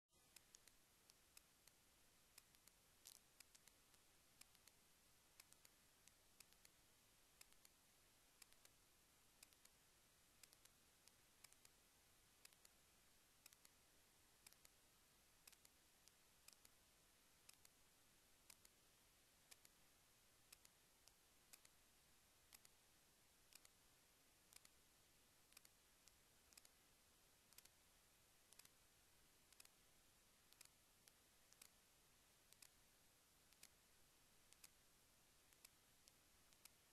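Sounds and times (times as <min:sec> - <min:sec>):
low steady hiss: 0:00.0 - 0:36.9
faint sharp clicks: 0:00.2 - 0:36.9.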